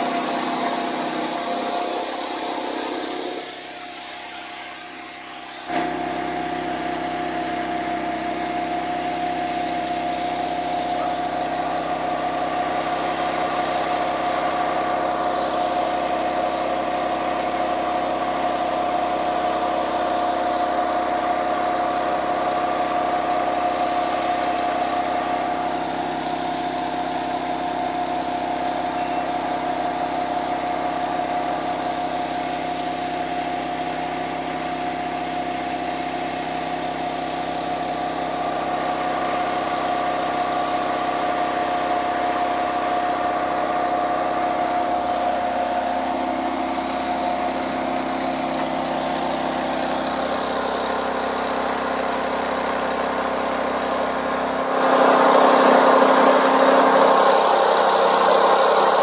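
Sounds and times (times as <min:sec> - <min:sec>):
fire pump engine hum: 0:00.0 - 0:59.0
pump whine: 0:00.0 - 0:59.0.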